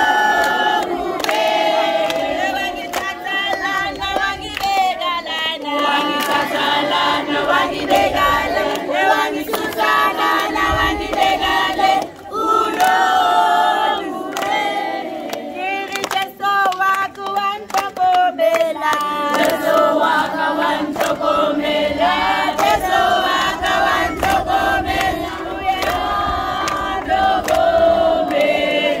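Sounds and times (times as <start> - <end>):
crowd singing: 0.0 - 29.0
hand-clapping: 0.2 - 21.4, 22.0 - 29.0.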